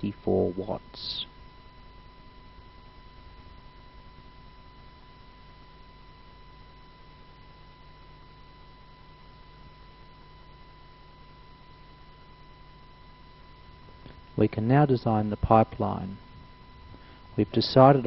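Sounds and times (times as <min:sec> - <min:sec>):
electrical hum and hiss: 0:00.0 - 0:18.0
thin high whine: 0:00.0 - 0:18.0.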